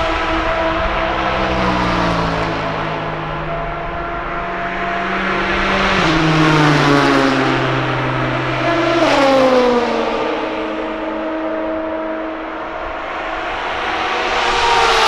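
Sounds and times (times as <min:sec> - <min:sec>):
engine running steadily: 0:00.0 - 0:15.0
race cars passing at speed: 0:00.0 - 0:15.0.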